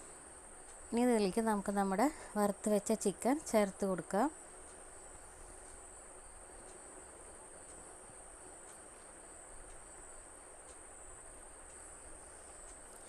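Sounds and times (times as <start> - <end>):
crickets trilling: 0.0 - 13.0
light ticks: 0.6 - 13.0.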